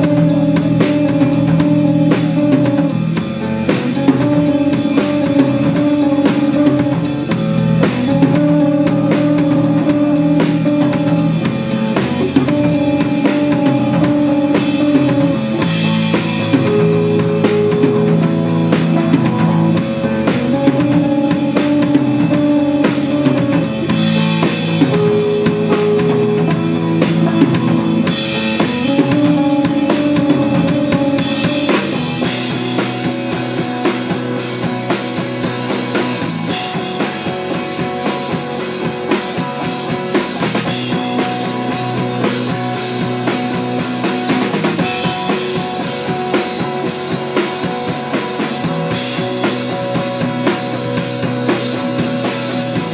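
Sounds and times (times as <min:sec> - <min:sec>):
instrumental rock band music: 0:00.0 - 0:52.9.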